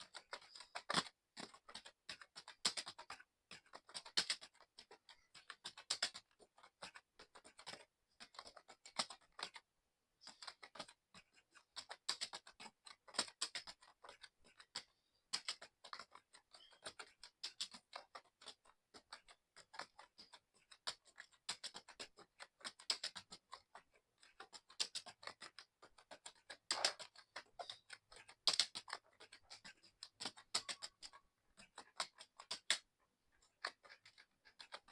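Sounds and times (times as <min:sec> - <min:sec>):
fast typing on mechanical keyboard: 0:00.0 - 0:09.6, 0:10.2 - 0:32.9, 0:33.5 - 0:34.9.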